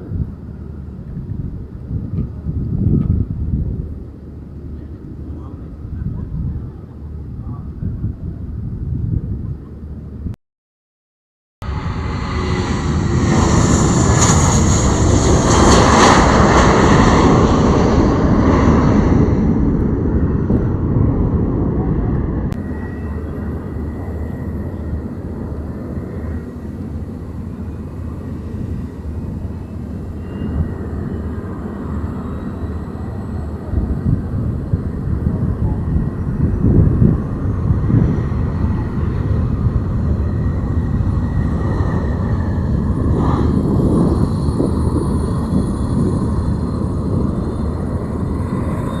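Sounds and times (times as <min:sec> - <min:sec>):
turboprop aircraft engine running: 0:00.0 - 0:10.4, 0:11.6 - 0:49.0.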